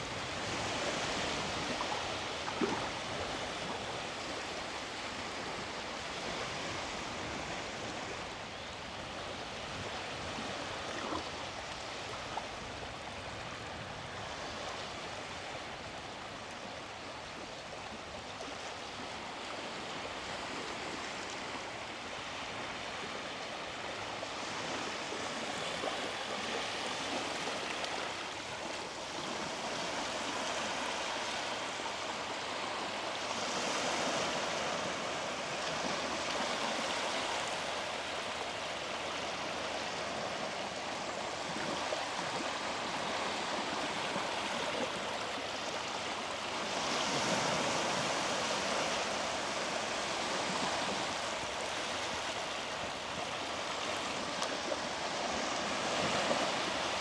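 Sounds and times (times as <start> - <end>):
small waves washing onto sand: 0.0 - 57.0.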